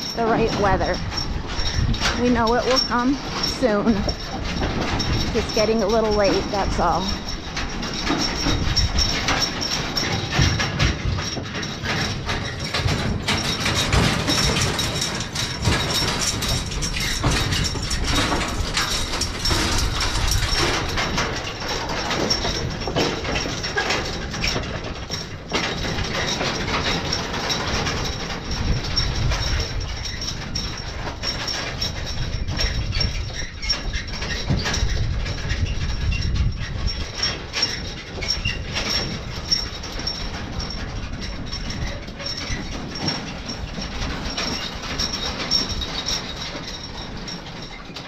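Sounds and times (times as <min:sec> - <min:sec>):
wagon rattling and clattering: 0:00.0 - 0:48.0.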